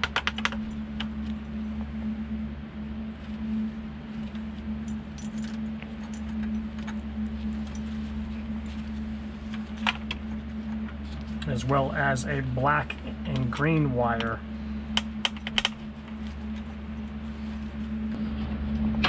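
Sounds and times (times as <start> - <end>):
gloved hands rustling wires: 0.0 - 18.2
steady low hum: 0.0 - 19.0.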